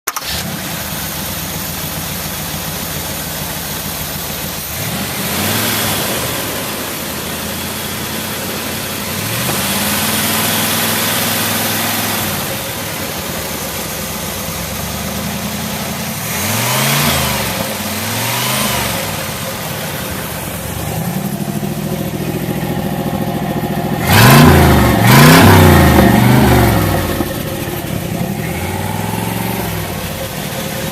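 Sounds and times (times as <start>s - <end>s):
car engine idling and revving: 0.1s - 30.9s.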